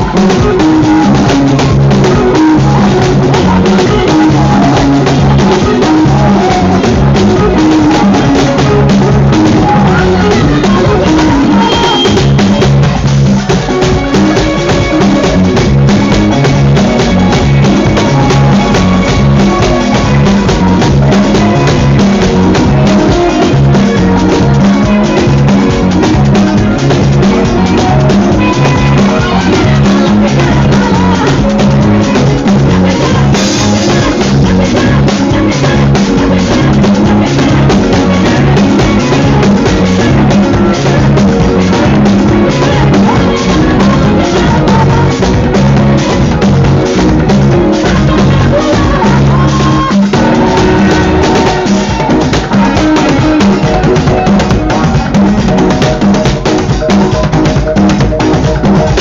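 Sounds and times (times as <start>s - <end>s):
drum kit: 0.0s - 59.0s
repeating bass line: 0.0s - 59.0s.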